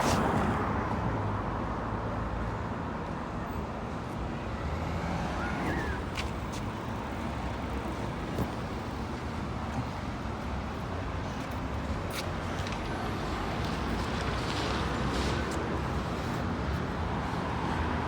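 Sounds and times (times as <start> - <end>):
road traffic passing: 0.0 - 1.7, 4.1 - 18.0.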